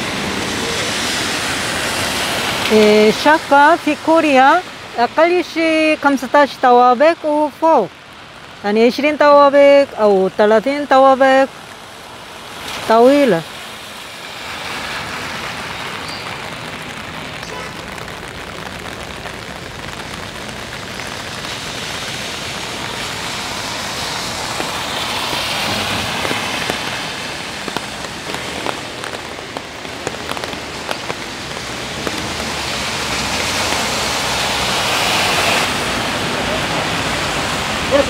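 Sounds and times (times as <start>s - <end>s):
cars passing on wet road: 0.0s - 38.0s
rain on wet street: 0.0s - 38.0s.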